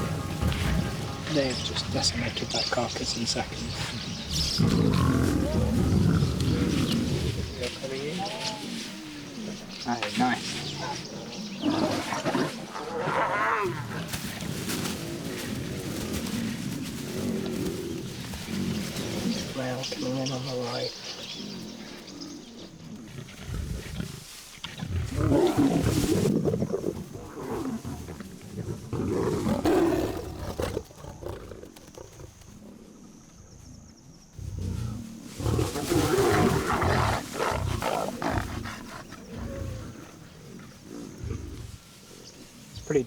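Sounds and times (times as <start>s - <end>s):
lions vocalizing: 0.0s - 33.0s, 34.4s - 42.9s.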